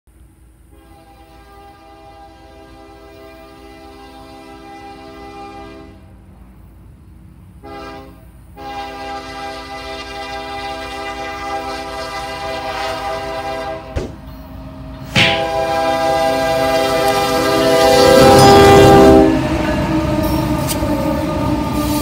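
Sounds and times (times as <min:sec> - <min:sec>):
low rumble of train: 0:00.1 - 0:22.0
locomotive air horn blasts: 0:00.7 - 0:06.1, 0:07.6 - 0:14.0, 0:15.0 - 0:20.9.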